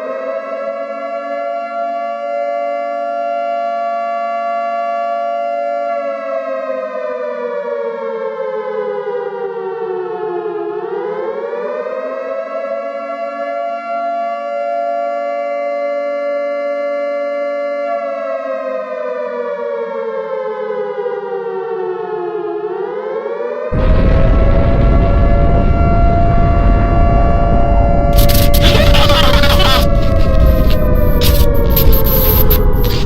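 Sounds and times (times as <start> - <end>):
civil defense siren wailing: 0.0 - 28.3.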